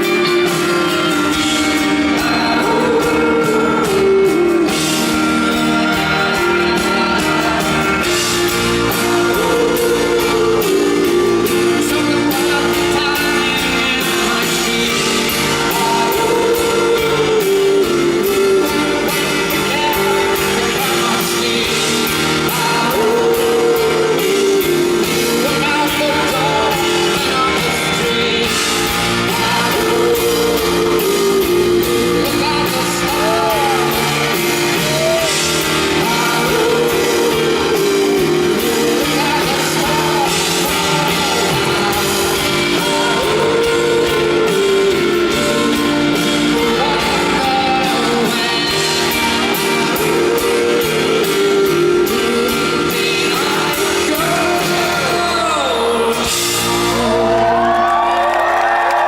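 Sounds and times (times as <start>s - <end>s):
wordless singing: 0.0s - 57.8s
live pop-rock band: 0.0s - 59.0s.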